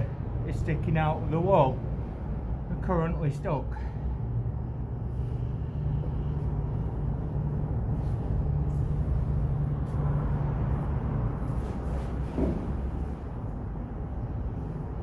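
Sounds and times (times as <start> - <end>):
traffic rumbling over bridge: 0.0 - 15.0.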